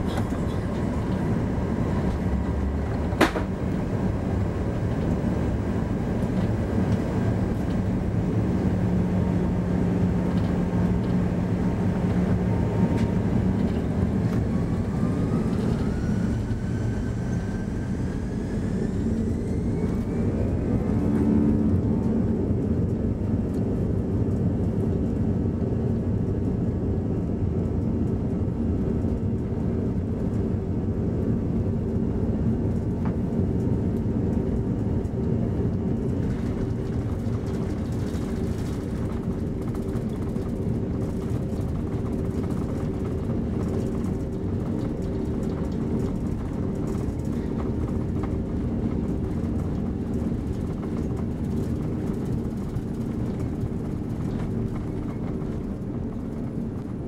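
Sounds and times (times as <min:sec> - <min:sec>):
engine whine: 0:00.0 - 0:57.0
jet engines humming and rumbling: 0:00.0 - 0:57.0.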